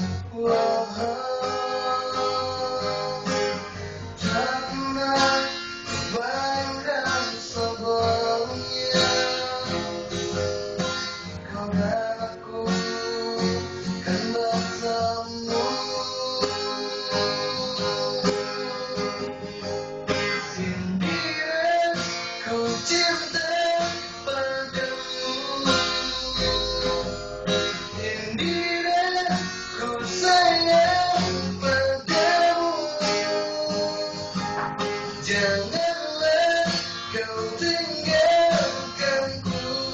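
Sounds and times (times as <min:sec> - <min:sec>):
person singing: 0:00.0 - 0:19.8, 0:20.4 - 0:39.9
acoustic guitar strummed: 0:00.0 - 0:39.9.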